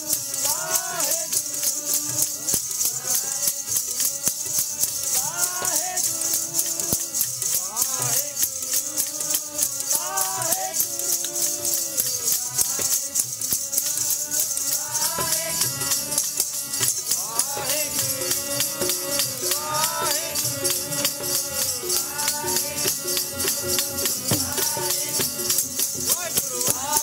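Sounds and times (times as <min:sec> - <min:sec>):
jingling percussion: 0:00.0 - 0:27.0
person singing: 0:00.0 - 0:27.0.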